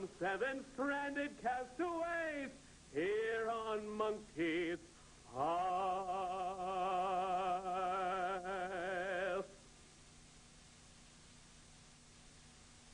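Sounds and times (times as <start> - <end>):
faint hiss: 0.0 - 12.9.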